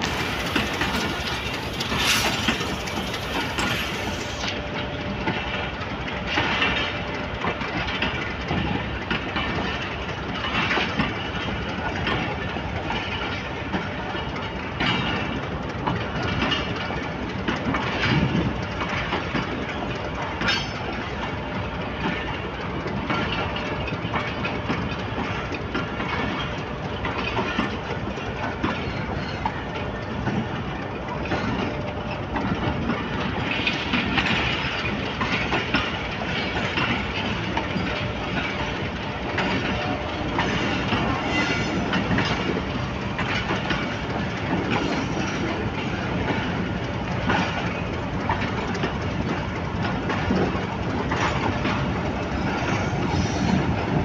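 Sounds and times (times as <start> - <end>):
train wheels rumbling on rail: 0.0 - 54.0
wheels clicking over rail joints: 0.0 - 54.0.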